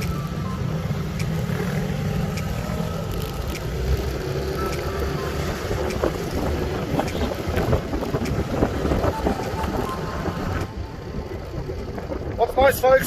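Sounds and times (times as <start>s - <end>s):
motorbike engines running: 0.0s - 13.0s.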